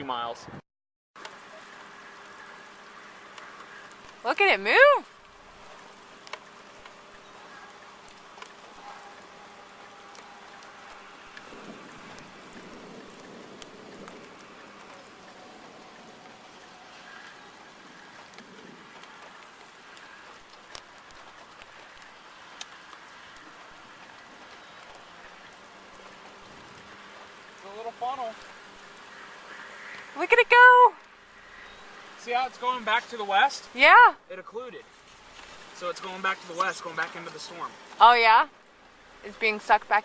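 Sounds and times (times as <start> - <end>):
light rain falling: 1.2 - 40.0
raindrops ticking close: 1.2 - 40.0.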